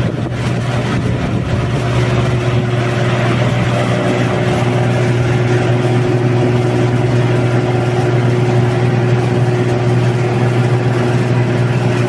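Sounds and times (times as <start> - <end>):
machine engine humming: 0.0 - 12.0.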